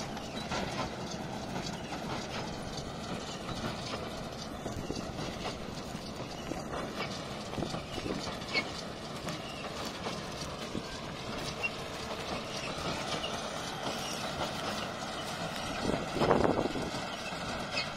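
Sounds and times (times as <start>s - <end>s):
baler mechanical clatter: 0.0s - 17.9s
tractor running: 0.0s - 17.9s.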